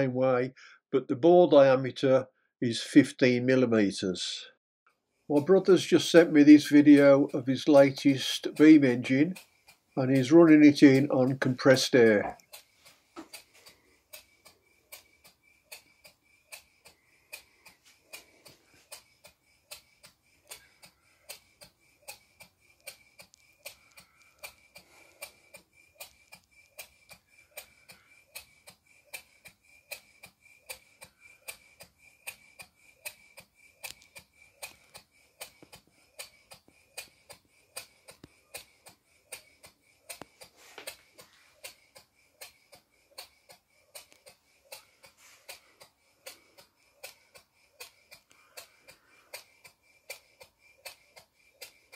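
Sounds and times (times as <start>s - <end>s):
model engine ticking: 5.3s - 51.9s.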